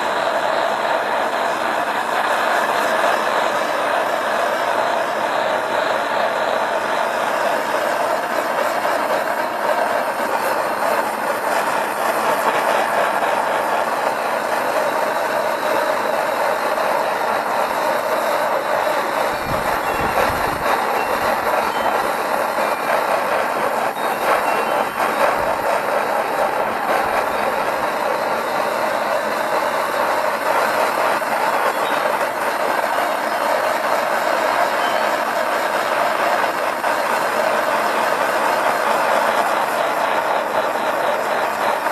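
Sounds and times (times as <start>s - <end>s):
propane torch hissing: 0.0s - 41.9s.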